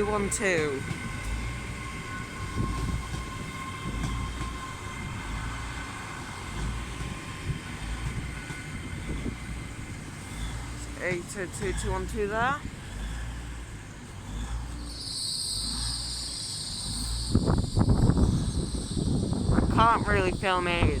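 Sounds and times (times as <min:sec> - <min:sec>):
steady whine: 0:00.0 - 0:21.0
train low rumble: 0:00.0 - 0:21.0.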